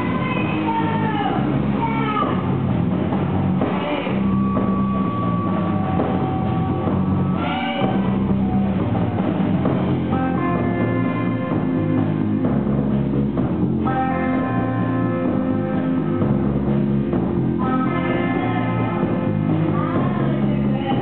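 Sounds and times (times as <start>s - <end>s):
drum kit: 0.0s - 21.0s
electric guitar: 0.0s - 21.0s.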